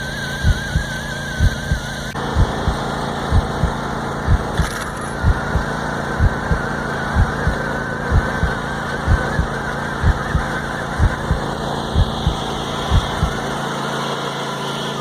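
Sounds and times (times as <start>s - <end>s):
garden tractor engine running: 0.0s - 15.0s
wavering whine: 0.0s - 15.0s.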